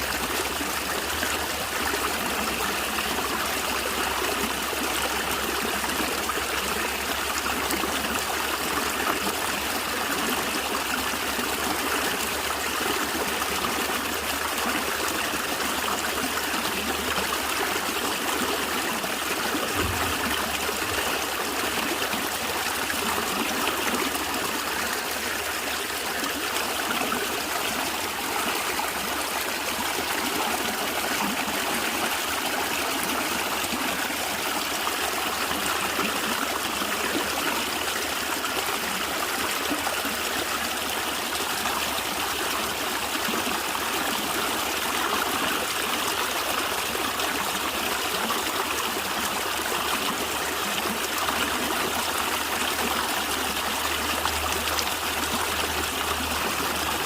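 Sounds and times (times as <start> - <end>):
stream flowing and gurgling: 0.0 - 57.0.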